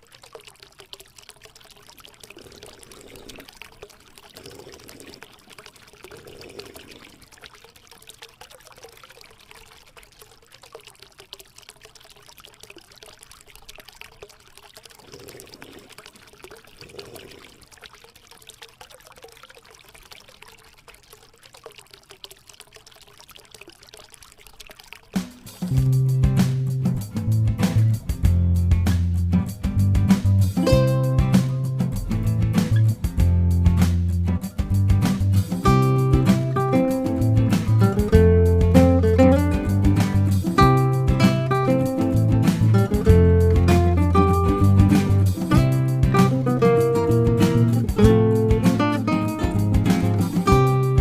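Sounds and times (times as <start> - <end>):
water pouring and trickling: 0.0 - 51.0.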